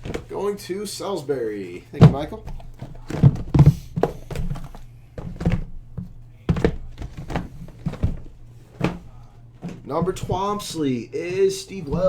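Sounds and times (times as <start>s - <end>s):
boxes thunking as set down: 0.0s - 0.4s, 1.8s - 12.0s.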